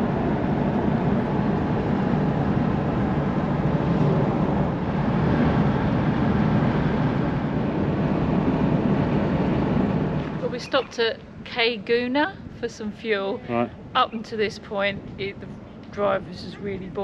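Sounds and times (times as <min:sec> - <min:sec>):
engine noise in cab: 0:00.0 - 0:17.0
road noise: 0:00.0 - 0:17.0
wind noise: 0:00.0 - 0:17.0.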